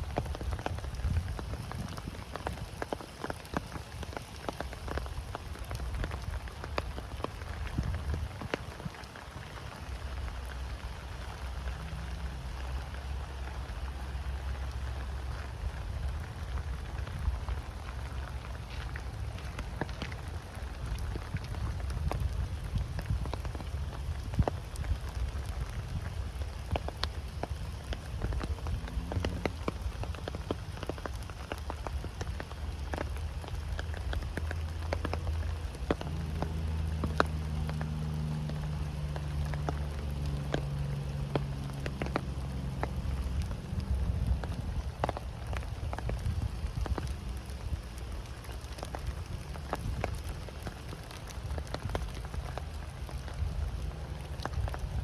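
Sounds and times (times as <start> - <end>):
raindrops tapping on surfaces: 0.0 - 55.0.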